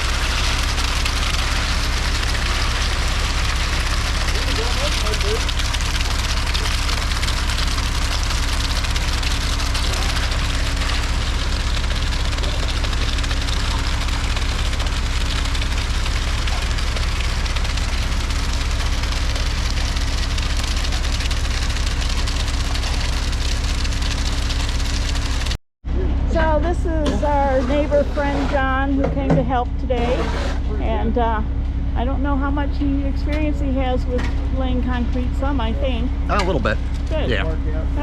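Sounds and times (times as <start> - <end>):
truck engine idling: 0.0 - 25.6, 30.9 - 38.0.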